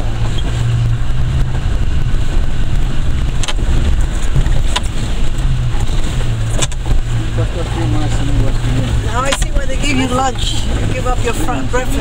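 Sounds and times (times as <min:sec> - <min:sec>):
car engine droning from inside: 0:00.0 - 0:12.0.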